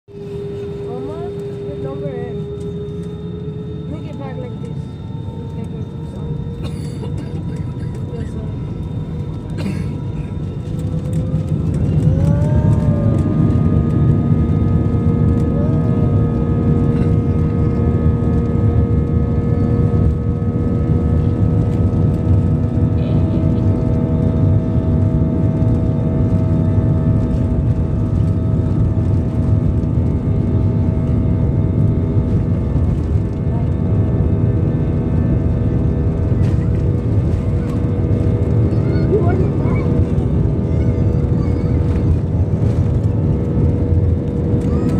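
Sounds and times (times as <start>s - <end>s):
heavy takeoff rumble: 0.1s - 44.9s
jet engines whining: 0.1s - 44.9s.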